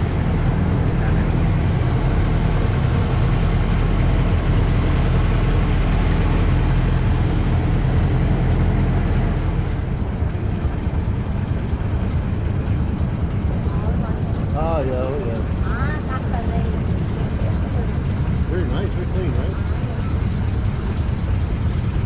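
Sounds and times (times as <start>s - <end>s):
boat engine running: 0.0s - 22.0s
rushing water: 0.0s - 22.0s
wind: 0.0s - 22.0s.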